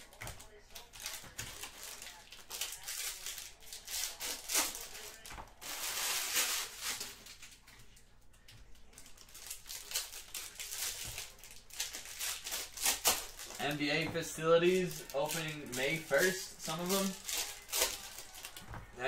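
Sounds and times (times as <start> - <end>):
wrappers crinkling: 0.0 - 8.0, 8.7 - 19.0.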